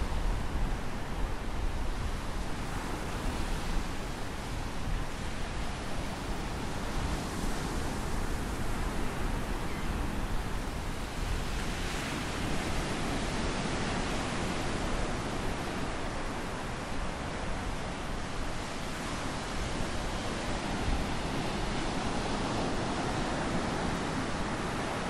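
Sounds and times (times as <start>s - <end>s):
ocean surf breaking on beach: 0.0s - 25.0s
wind rumbling on microphone: 0.0s - 25.0s.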